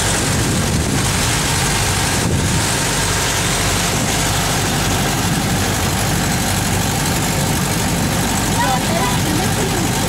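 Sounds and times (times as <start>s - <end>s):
hiss of wind and water: 0.0s - 10.0s
motor boat engine running: 0.0s - 10.0s.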